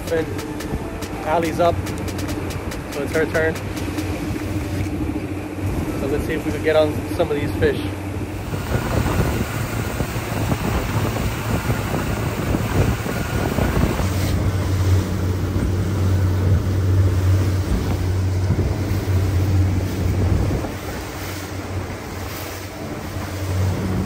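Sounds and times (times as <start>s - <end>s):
boat wake rushing: 0.0s - 24.0s
outboard motor droning: 0.0s - 24.0s
wind buffeting microphone: 0.0s - 24.0s.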